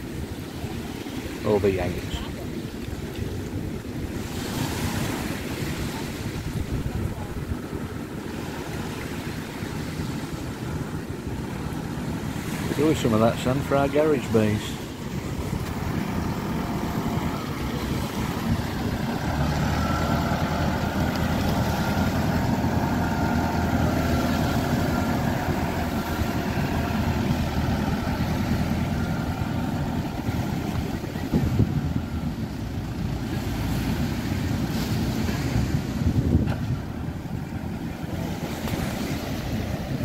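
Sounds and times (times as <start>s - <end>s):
diesel engine running: 5.9s - 40.0s.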